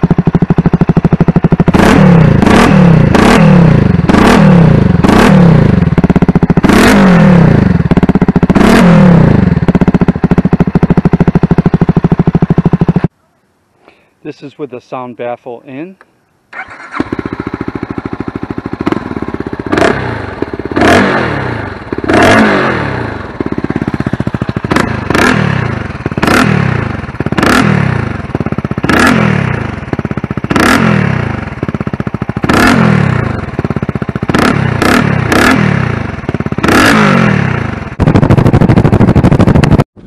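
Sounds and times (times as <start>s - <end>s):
motorcycle engine revving: 0.0s - 13.1s, 16.5s - 40.0s.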